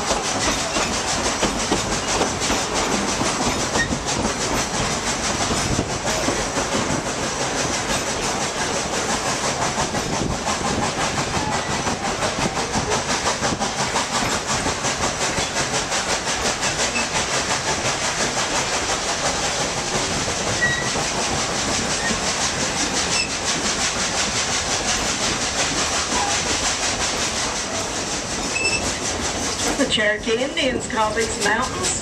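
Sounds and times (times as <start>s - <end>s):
steam locomotive rhythmic beat: 0.0s - 32.0s
train wheels on track: 0.0s - 32.0s.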